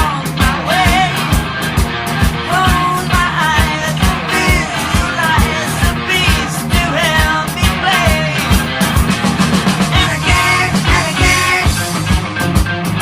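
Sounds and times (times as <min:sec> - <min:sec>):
drums keeping beat: 0:00.0 - 0:13.0
heavy metal band playing: 0:00.0 - 0:13.0.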